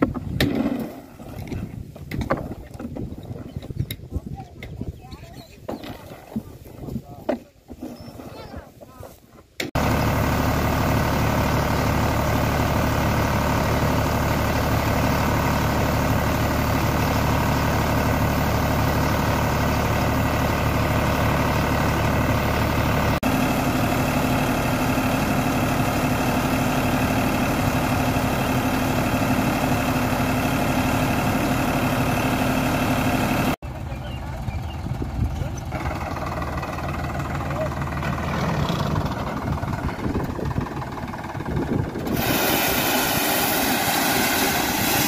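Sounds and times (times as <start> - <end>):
tractor diesel engine running: 8.4 - 45.0.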